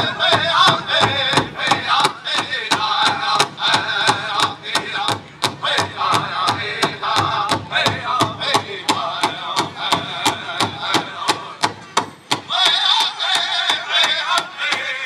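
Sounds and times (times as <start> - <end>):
people singing high: 0.0 - 11.6, 12.5 - 15.0.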